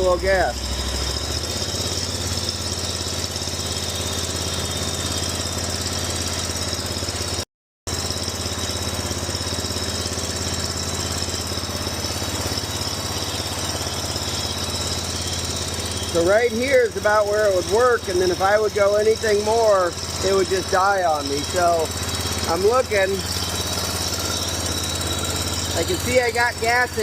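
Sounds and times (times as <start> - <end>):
mower engine running: 0.0 - 27.0.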